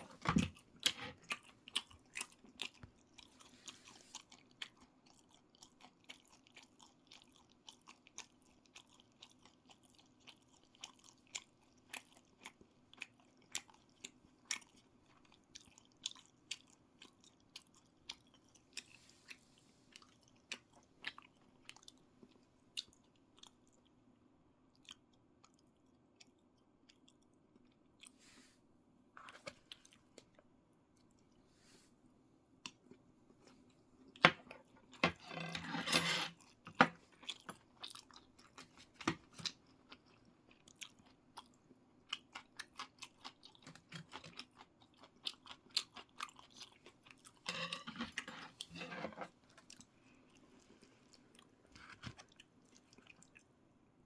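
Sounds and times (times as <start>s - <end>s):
person chewing food: 0.0s - 28.4s, 29.2s - 31.6s, 32.5s - 35.7s, 36.3s - 53.6s
low room hum: 0.0s - 54.0s.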